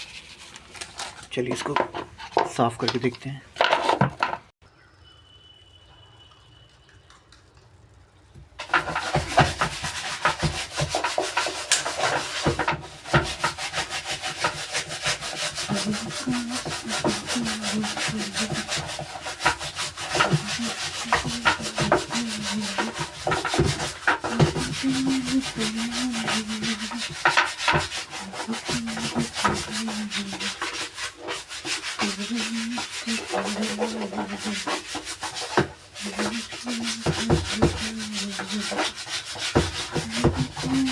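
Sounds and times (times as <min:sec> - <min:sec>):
hand scrubbing inside washer tub: 0:00.0 - 0:04.5, 0:08.6 - 0:40.9.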